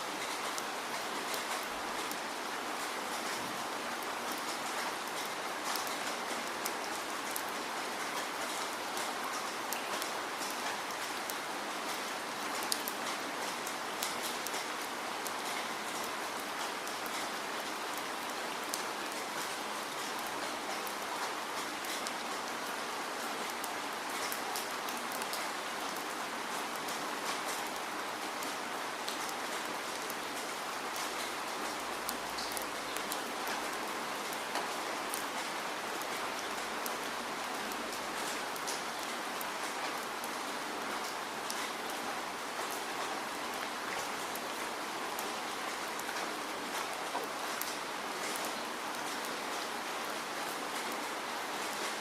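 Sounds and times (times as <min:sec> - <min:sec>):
raindrops pattering on a surface: 0:00.0 - 0:52.0
steady rain hiss: 0:00.0 - 0:52.0.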